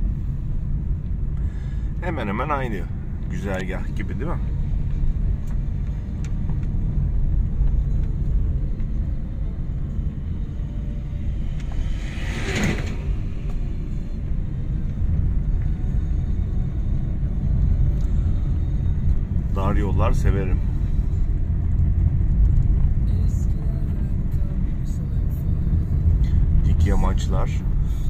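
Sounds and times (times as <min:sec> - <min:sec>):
car cabin engine and tyre rumble: 0:00.0 - 0:28.0.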